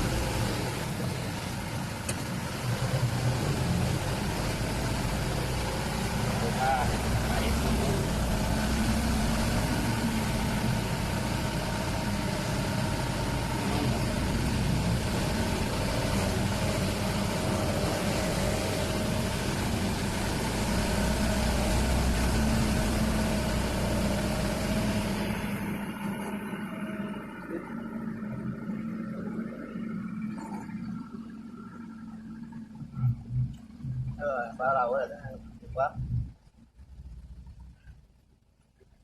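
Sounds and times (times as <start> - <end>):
road noise: 0.0 - 39.0
truck engine running: 0.0 - 39.0.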